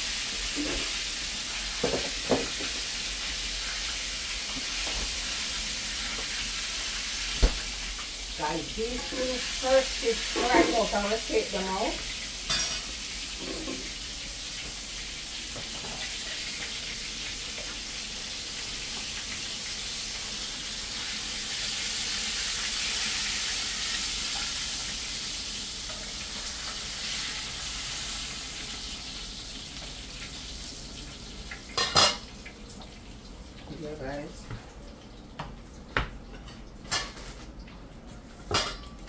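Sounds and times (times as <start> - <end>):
fish frying in hot oil: 0.0 - 39.0.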